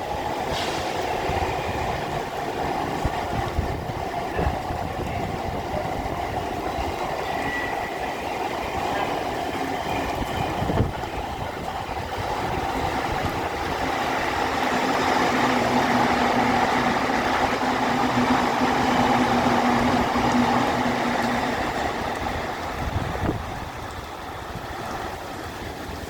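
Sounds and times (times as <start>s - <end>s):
heavy rain: 0.0s - 26.0s
train humming: 0.0s - 26.0s
wind: 0.0s - 26.0s.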